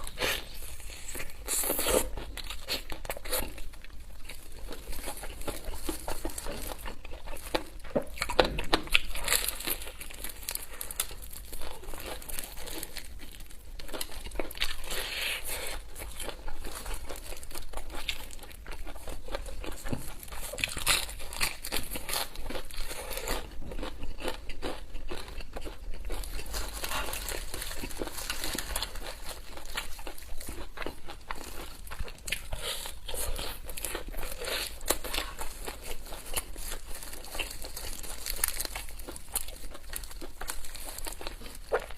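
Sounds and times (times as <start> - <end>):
wrapping crinkling and tearing: 0.0 - 23.5, 25.3 - 41.9.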